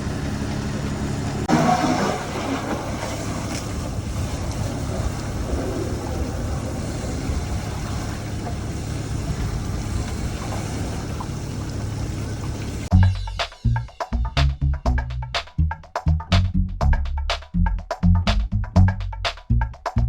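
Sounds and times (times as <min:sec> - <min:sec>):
engine rumble: 0:00.0 - 0:20.0.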